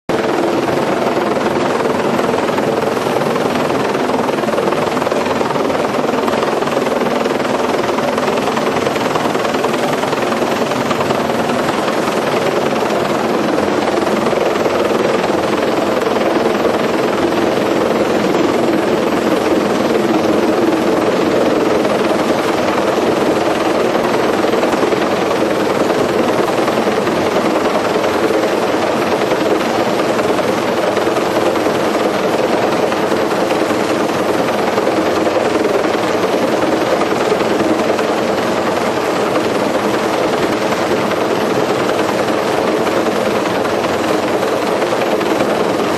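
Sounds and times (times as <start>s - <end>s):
helicopter engine and rotors: 0.1s - 45.9s.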